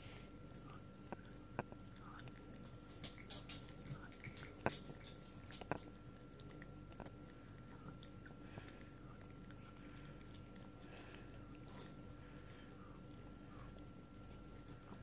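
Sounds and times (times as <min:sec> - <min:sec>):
dog chewing wetly: 0:00.0 - 0:15.0
faint steady hum: 0:00.0 - 0:15.0.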